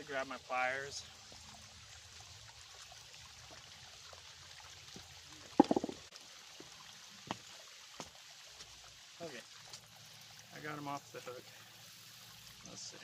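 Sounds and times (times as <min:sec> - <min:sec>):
shallow creek trickling: 0:00.0 - 0:13.0.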